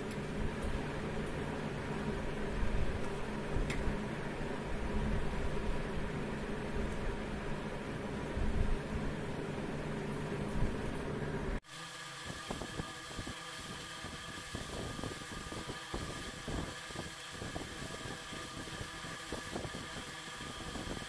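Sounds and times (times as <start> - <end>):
mechanical hum and hiss: 0.0 - 21.0.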